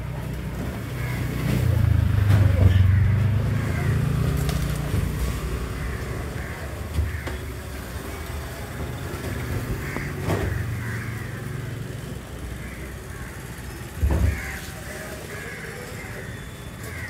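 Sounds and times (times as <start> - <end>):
motorcycles passing: 0.0 - 17.0
crows cawing: 0.8 - 2.0, 2.7 - 8.6, 9.3 - 17.0.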